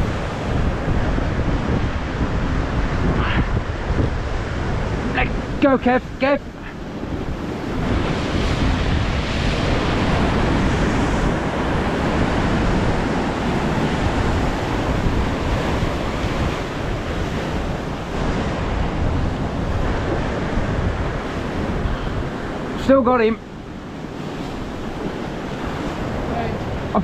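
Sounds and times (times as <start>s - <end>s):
sea surf breaking on shore: 0.0s - 27.0s
wind rumbling on microphone: 0.0s - 27.0s.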